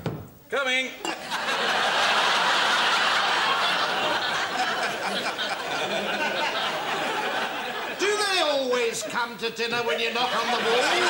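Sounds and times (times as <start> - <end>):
studio audience laughing: 1.0 - 11.0.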